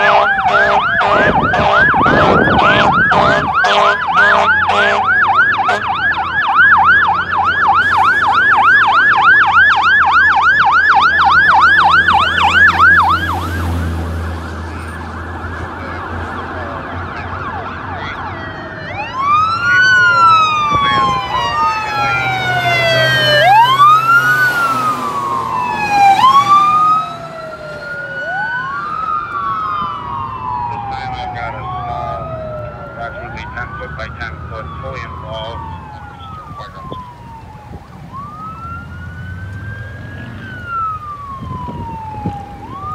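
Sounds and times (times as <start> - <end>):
fire truck siren yelping: 0.0 - 42.9
sirens wailing: 0.0 - 42.9
truck engine rumbling: 0.0 - 42.9.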